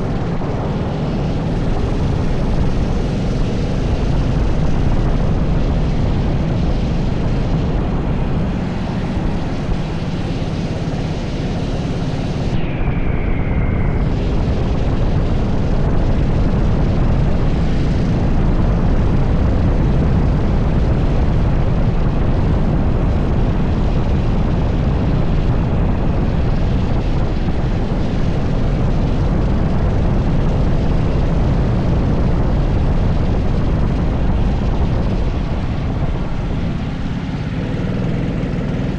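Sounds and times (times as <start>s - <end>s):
falling whine: 0.0s - 38.9s
go-kart engine running hard: 0.0s - 38.9s
wind rush on microphone: 0.0s - 38.9s.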